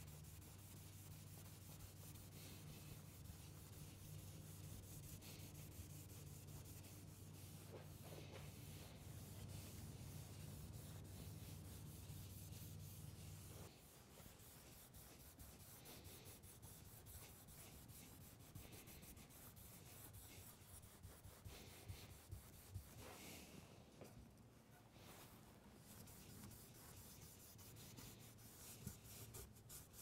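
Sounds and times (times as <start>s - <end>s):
low steady hum: 0.0s - 30.0s
cloth rubbing wood: 0.1s - 23.5s, 25.0s - 30.0s.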